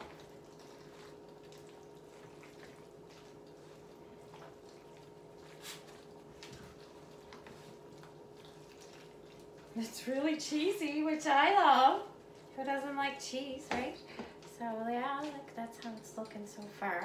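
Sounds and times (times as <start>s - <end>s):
faint steady hum: 0.0s - 17.0s
wooden spoon stirring thick mixture: 0.0s - 17.0s.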